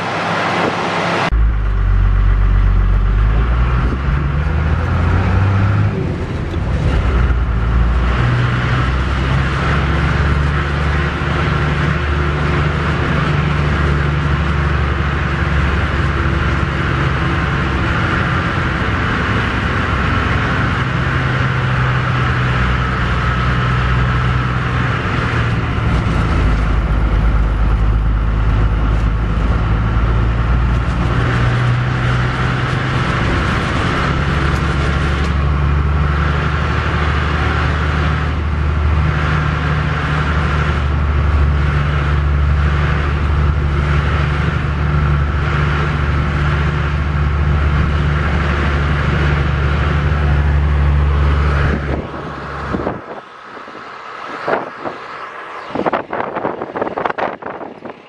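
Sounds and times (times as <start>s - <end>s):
road noise: 0.0s - 58.0s
vehicle engine humming: 0.0s - 58.0s.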